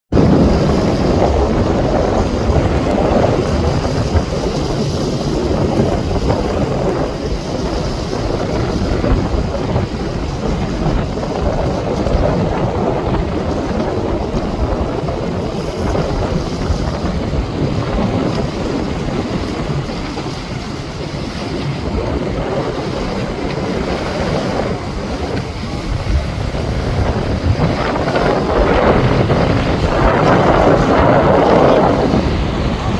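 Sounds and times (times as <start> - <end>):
wind on microphone: 0.1 - 32.9
motorboat engines and water rush: 0.2 - 32.9.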